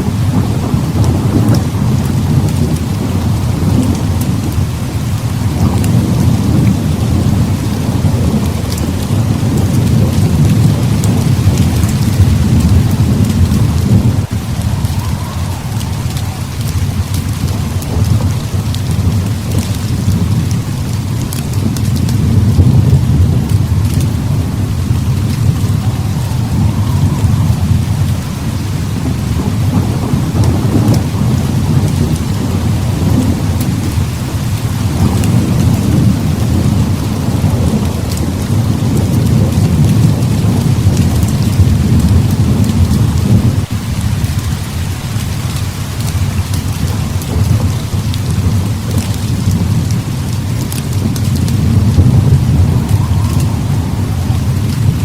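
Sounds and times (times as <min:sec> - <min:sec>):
heavy rain pouring: 0:00.0 - 0:55.0
low rumble of thunder: 0:00.0 - 0:55.0.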